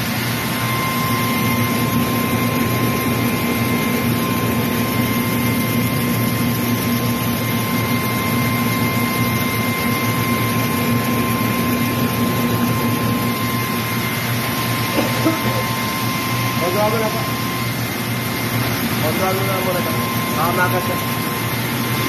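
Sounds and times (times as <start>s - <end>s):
rice milling machine humming: 0.0s - 22.0s.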